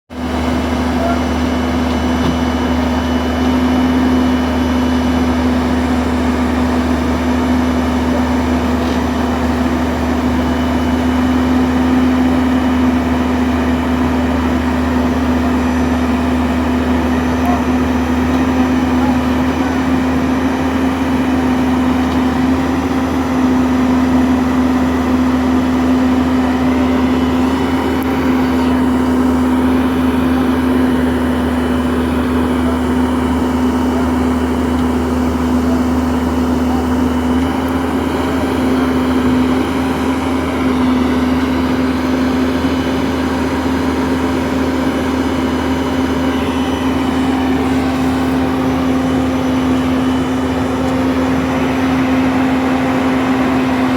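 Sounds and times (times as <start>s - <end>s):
excavator diesel engine humming: 0.1s - 53.9s.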